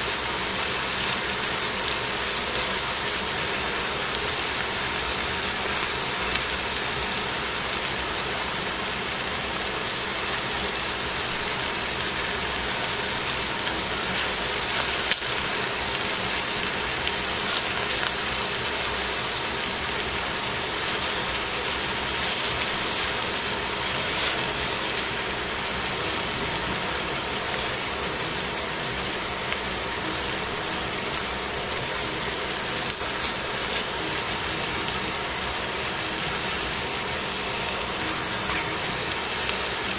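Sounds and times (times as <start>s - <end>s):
vegetables sizzling in pot: 0.0s - 39.9s.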